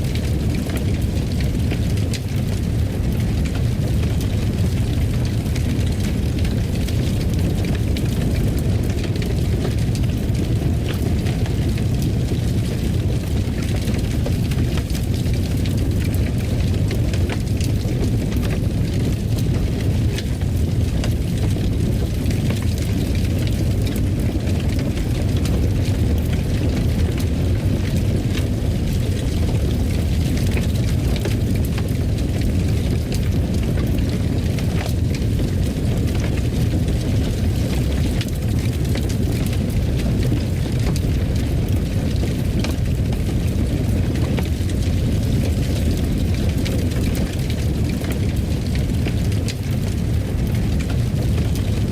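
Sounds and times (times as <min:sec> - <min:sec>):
fire crackling and popping: 0:00.0 - 0:51.9
flames rumbling: 0:00.0 - 0:51.9.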